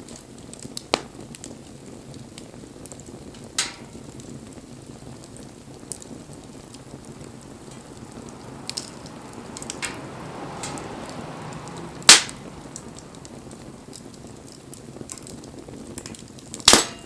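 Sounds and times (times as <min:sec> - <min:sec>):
bonfire hissing: 0:00.0 - 0:17.0
fire crackling pops: 0:00.0 - 0:17.0.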